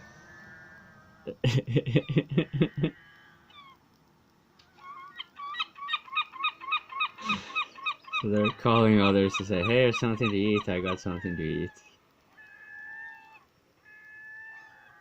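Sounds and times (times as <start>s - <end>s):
gulls calling: 0.0s - 3.8s, 4.6s - 15.0s.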